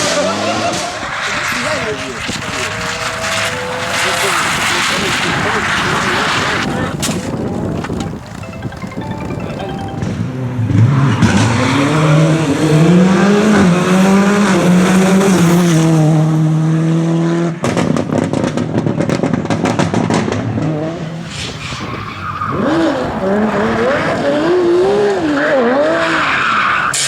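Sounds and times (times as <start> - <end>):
rally car engine revving: 0.0 - 8.5, 10.4 - 27.0.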